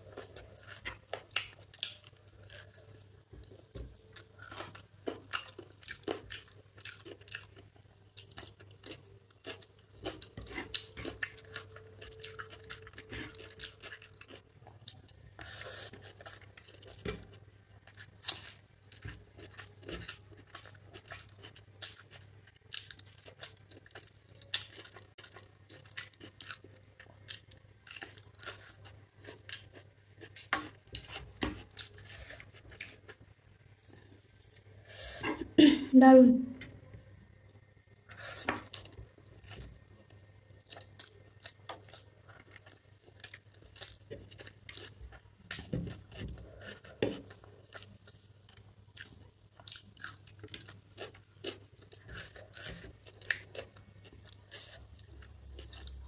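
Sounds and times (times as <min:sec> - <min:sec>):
crunching onion bites: 0:04.0 - 0:34.8, 0:37.6 - 0:56.0.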